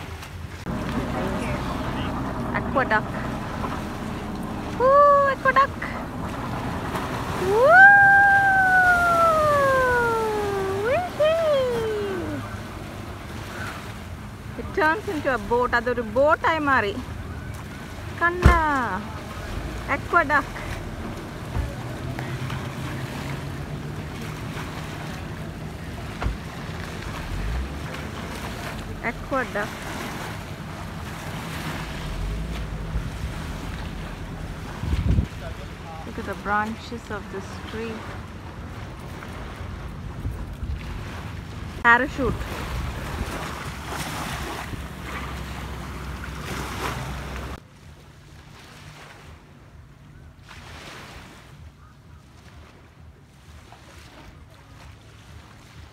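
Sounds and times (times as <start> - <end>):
wind buffeting microphone: 0.0 - 47.6
boat engine drone: 0.0 - 55.9
waves washing over ramp: 0.0 - 55.9.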